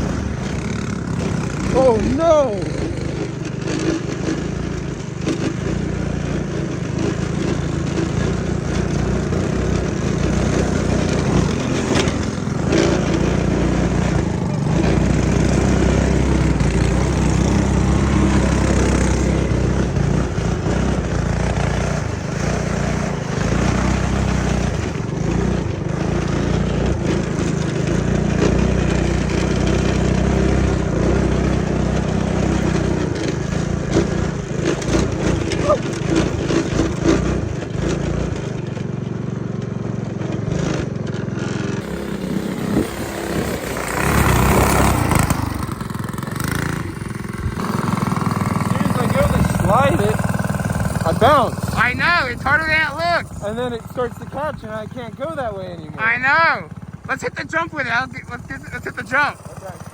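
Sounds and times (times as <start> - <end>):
small engine revving: 0.0 - 59.9.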